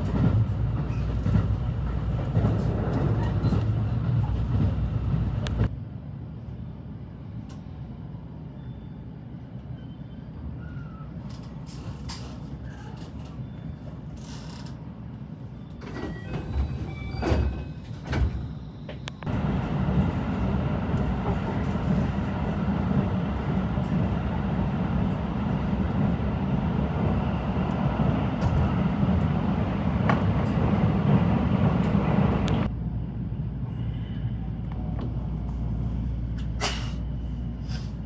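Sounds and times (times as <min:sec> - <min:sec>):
electric train low rumble: 0:00.0 - 0:38.0.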